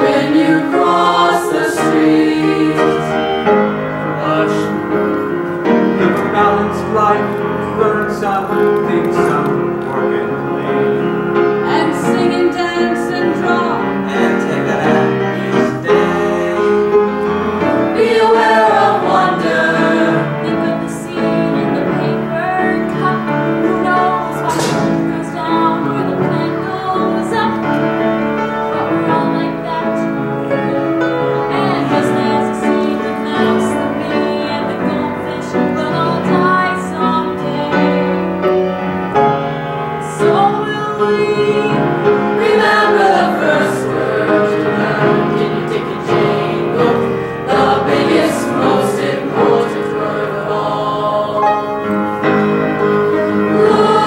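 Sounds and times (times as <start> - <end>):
choir singing: 0.0 - 54.0
piano accompaniment: 0.0 - 54.0.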